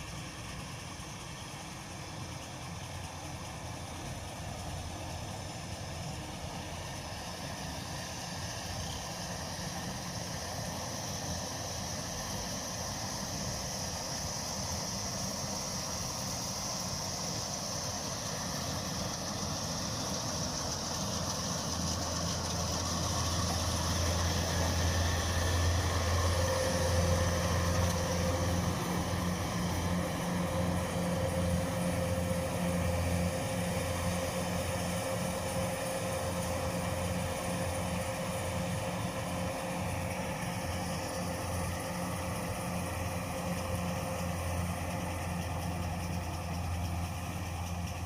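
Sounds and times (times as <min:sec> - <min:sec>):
diesel engine running: 0:00.0 - 0:48.0
steady high whine: 0:00.0 - 0:48.0.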